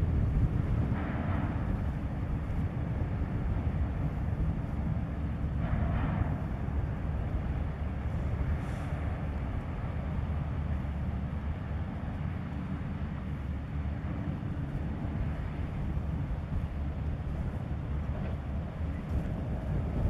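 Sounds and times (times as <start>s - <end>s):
ship diesel engine rumble: 0.0s - 20.0s.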